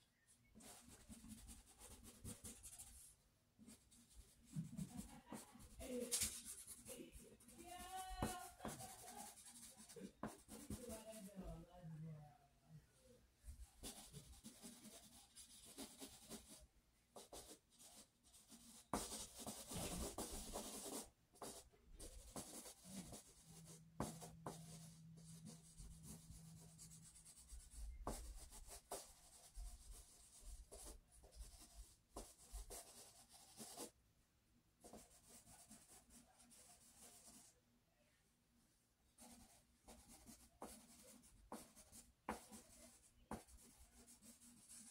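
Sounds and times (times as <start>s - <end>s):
drawing stick scratching paper: 0.6s - 3.1s, 3.7s - 11.3s, 13.8s - 34.0s, 34.8s - 37.5s, 39.2s - 44.9s.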